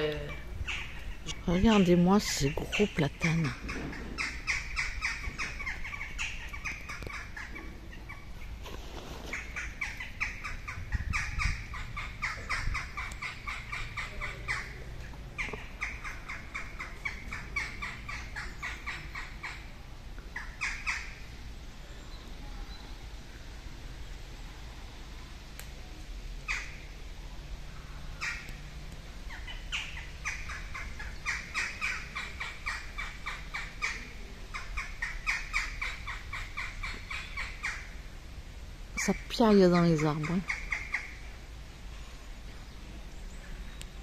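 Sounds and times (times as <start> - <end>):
birds chattering: 0.0 - 24.2, 26.4 - 38.2, 39.0 - 44.0.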